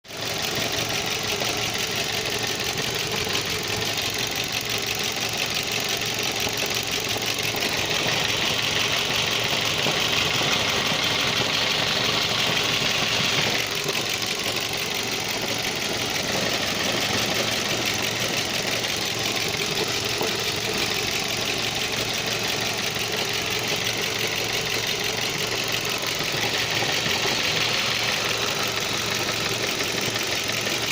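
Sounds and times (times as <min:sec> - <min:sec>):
car engine running: 0:00.1 - 0:30.9.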